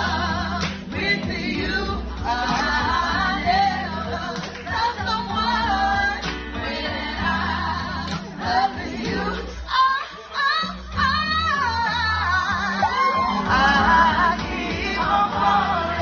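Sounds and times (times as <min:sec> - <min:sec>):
backing track with bass line: 0:00.0 - 0:16.0
women singing into microphones: 0:00.0 - 0:16.0.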